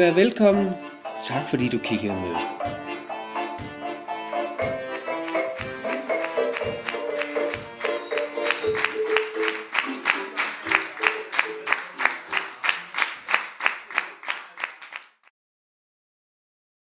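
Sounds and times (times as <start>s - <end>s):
rhythmic hand-clapping: 1.6s - 15.3s.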